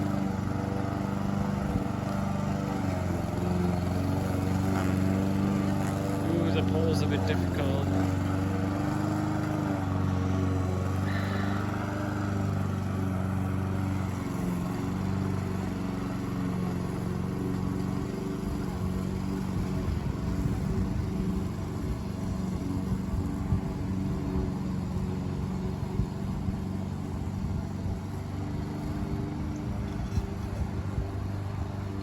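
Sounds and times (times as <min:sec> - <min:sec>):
tractor engine mowing grass: 0:00.0 - 0:32.0.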